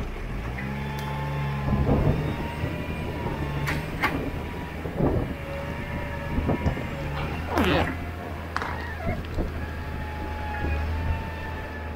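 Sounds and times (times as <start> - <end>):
engine running with whine: 0.0 - 11.9.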